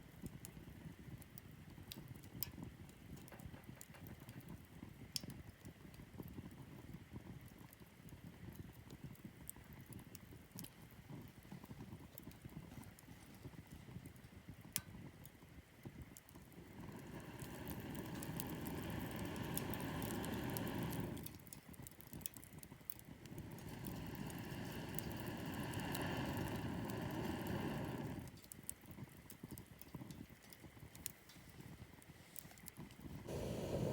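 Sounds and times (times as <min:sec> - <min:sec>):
wood fire crackling: 0:00.0 - 0:33.9
fire pops: 0:00.2 - 0:07.5, 0:08.2 - 0:33.9.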